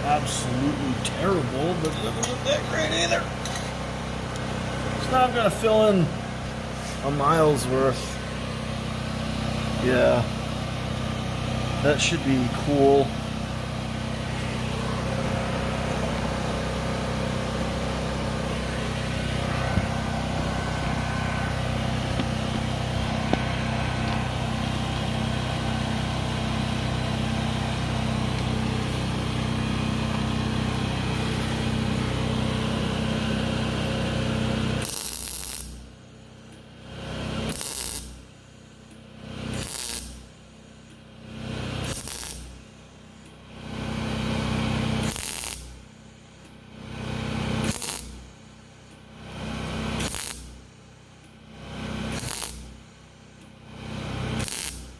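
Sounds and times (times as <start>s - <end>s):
welder arc crackling and buzzing: 0.0s - 54.9s.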